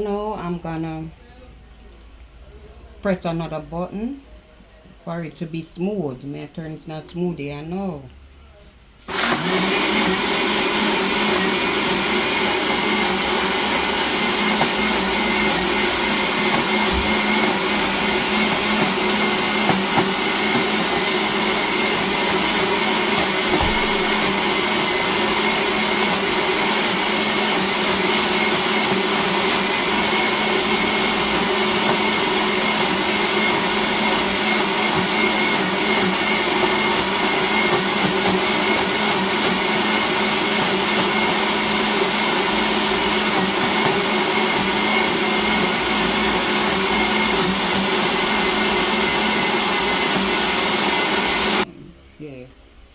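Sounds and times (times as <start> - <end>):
blender motor whining: 9.0 - 51.7.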